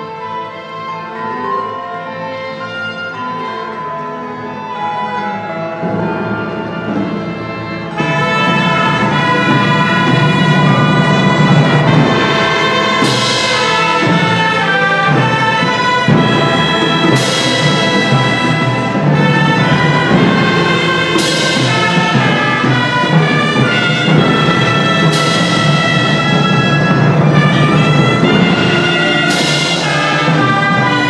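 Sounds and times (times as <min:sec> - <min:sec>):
orchestra playing held chords: 0:00.0 - 0:31.0.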